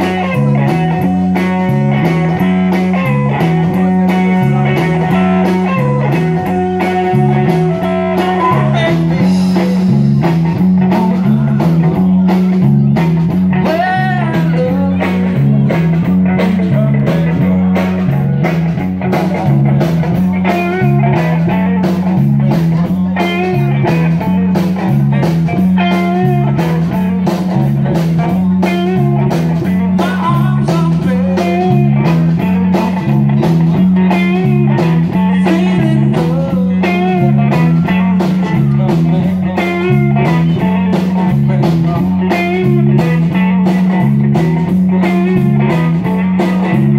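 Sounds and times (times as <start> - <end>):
guitar lead with bent notes: 0.0 - 46.9
repeating bass line: 0.0 - 46.9
steady drum beat: 0.0 - 46.9.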